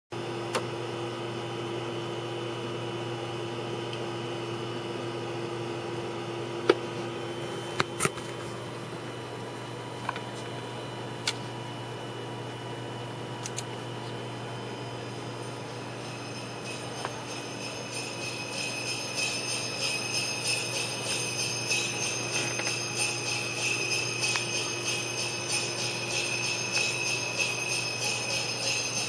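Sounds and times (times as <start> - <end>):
steady low hum: 0.3 - 29.0.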